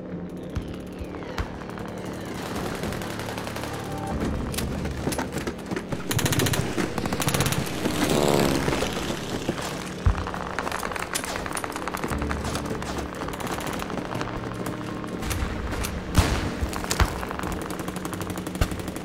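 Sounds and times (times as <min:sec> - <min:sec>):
machine-gun fire: 0:01.4 - 0:19.0
scattered gunshots: 0:01.4 - 0:19.0.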